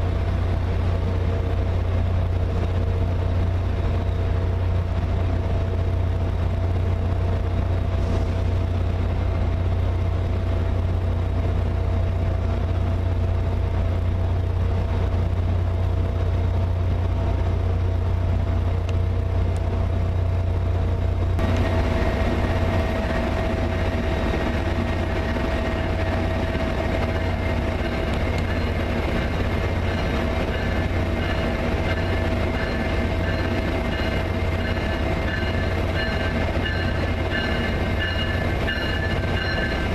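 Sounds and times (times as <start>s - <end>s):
diesel locomotive idling drone: 0.0s - 39.9s.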